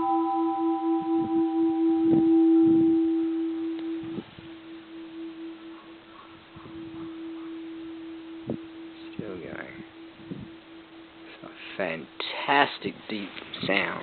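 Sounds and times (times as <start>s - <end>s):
temple bell ringing: 0.0s - 11.6s.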